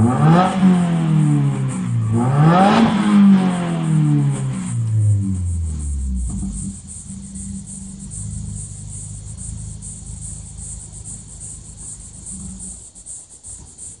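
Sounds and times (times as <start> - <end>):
car exhaust drone: 0.0 - 14.0
insects chirping: 0.0 - 14.0.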